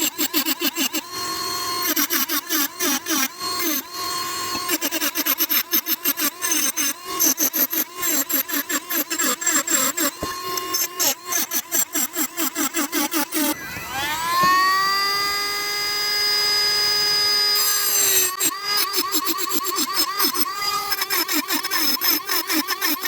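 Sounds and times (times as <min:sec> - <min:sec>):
hand tool rasping strokes: 0:00.0 - 0:14.6, 0:17.6 - 0:23.0
power tool motor whine: 0:00.0 - 0:23.0.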